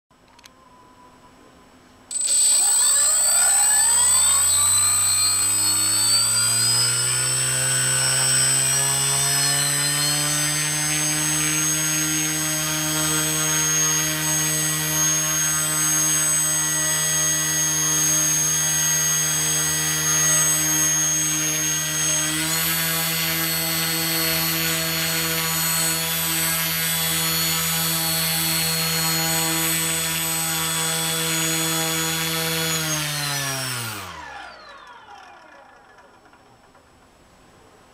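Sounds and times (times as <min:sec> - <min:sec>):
electric motor spinning propeller: 0:02.1 - 0:36.7.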